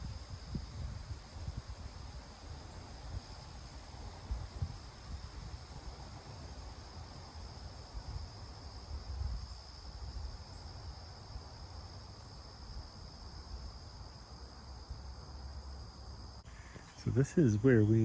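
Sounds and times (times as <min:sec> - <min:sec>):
crickets calling: 0:00.0 - 0:18.0.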